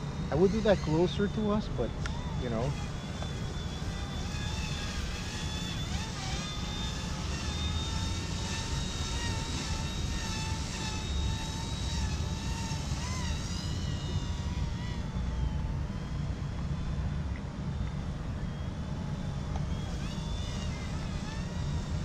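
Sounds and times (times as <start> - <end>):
toy helicopter rotor whine: 0.0 - 22.0.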